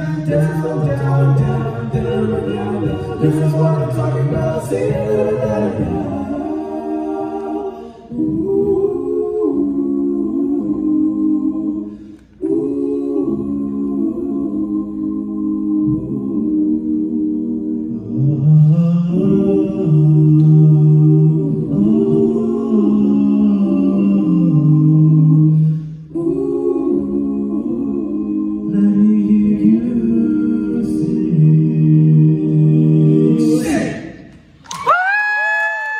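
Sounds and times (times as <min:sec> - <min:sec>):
male quartet singing a cappella: 0:00.0 - 0:34.6.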